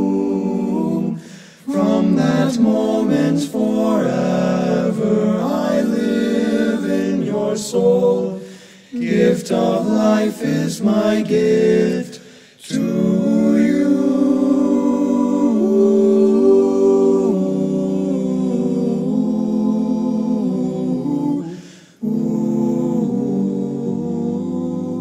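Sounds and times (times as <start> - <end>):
male quartet singing a cappella: 0.0 - 25.0.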